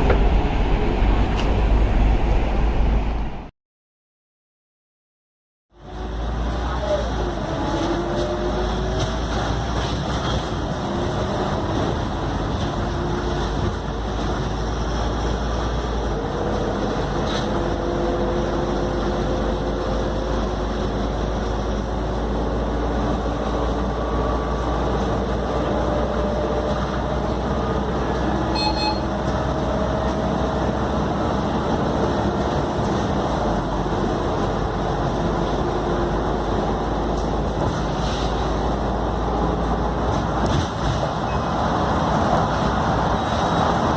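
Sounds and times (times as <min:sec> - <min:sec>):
bus engine and transmission whine: 0:00.0 - 0:03.5, 0:05.7 - 0:43.9.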